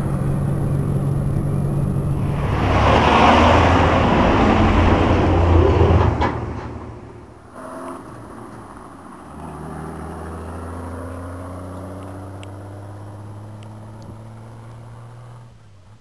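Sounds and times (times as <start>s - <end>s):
truck engine driving away: 0.0s - 15.6s.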